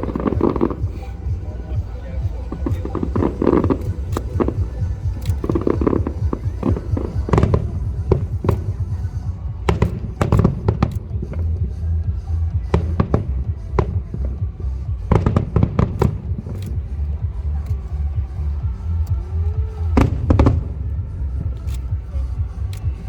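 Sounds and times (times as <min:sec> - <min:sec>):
background music: 0:00.0 - 0:23.0
fireworks bursting: 0:00.0 - 0:23.0.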